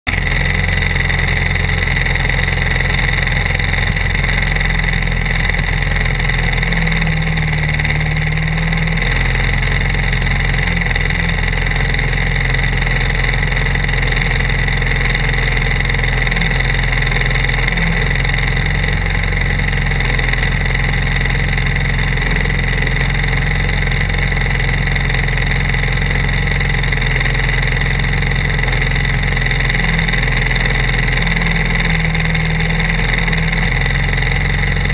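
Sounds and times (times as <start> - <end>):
kart engines idling: 0.1 - 34.9.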